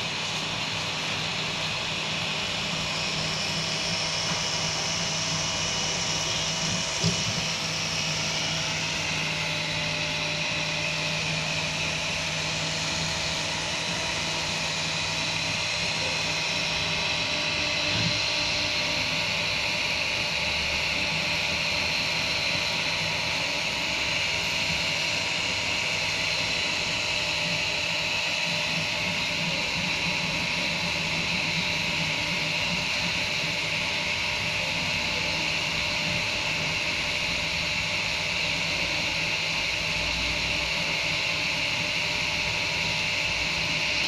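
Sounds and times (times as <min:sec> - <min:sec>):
printer fans and motors whirring: 0:00.0 - 0:44.0.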